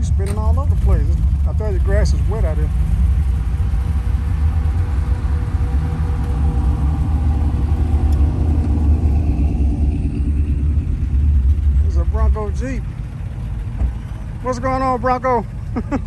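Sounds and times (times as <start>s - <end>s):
car engines rumbling: 0.0s - 16.0s.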